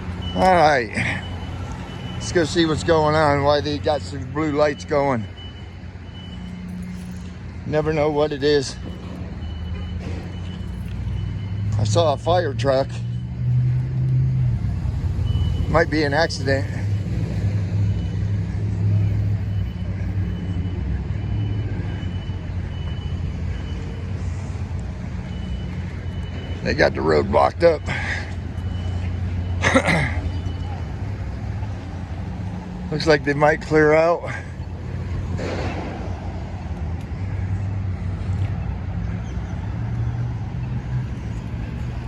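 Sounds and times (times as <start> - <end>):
road noise rush: 0.0 - 42.0
vehicle engine humming: 0.0 - 42.0.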